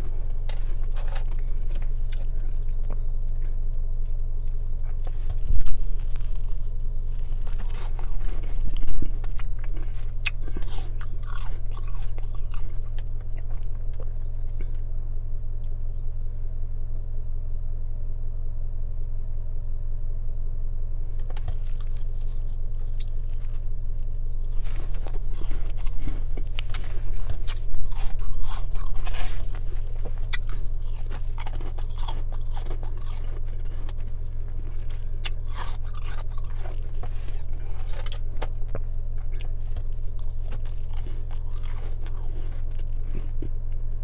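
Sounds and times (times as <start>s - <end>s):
crunching ice: 0.0s - 14.8s, 21.1s - 44.0s
car low hum: 0.0s - 44.0s.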